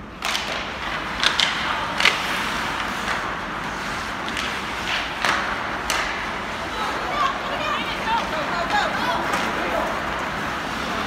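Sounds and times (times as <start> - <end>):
hockey sticks and puck clacking: 0.0 - 11.0
skates scraping on ice: 0.0 - 11.0.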